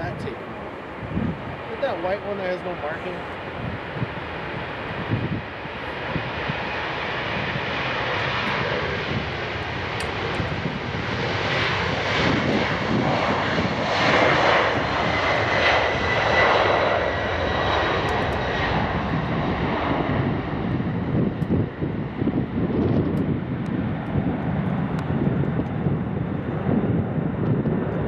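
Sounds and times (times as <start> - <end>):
high jet fan whine: 0.0 - 28.0
jet engines roaring at takeoff: 0.0 - 28.0.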